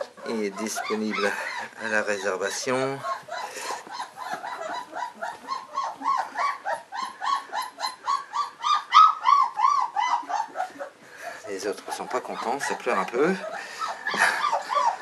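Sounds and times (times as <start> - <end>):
puppies whining: 0.0 - 15.0.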